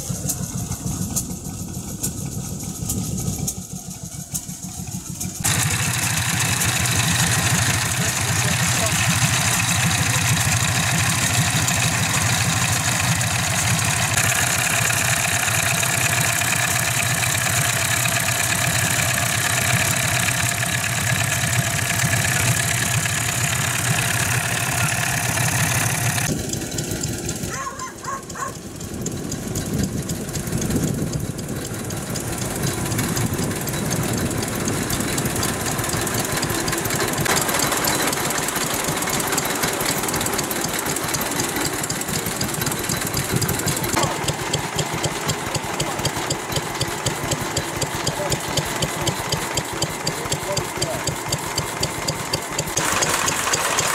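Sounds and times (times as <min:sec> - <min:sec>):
stationary engines idling: 0:00.0 - 0:53.9.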